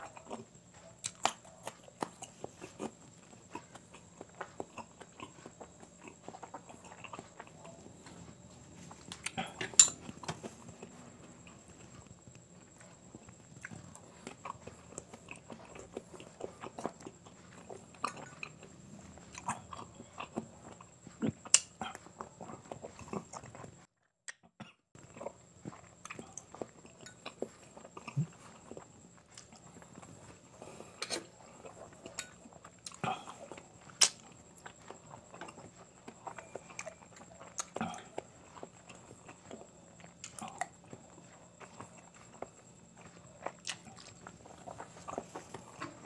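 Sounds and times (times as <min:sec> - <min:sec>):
chewing and mouth sounds: 0:00.0 - 0:46.0.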